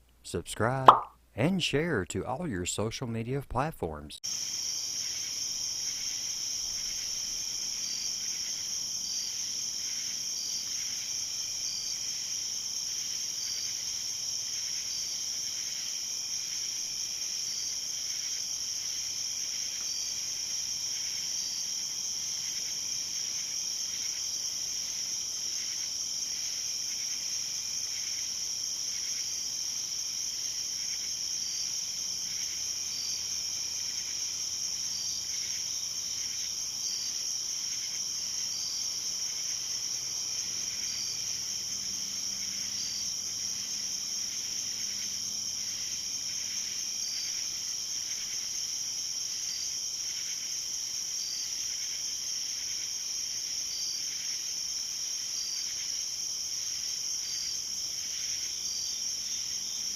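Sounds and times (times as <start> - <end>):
insect chirps: 4.2 - 59.9
high-pitched insect trill: 4.3 - 59.9.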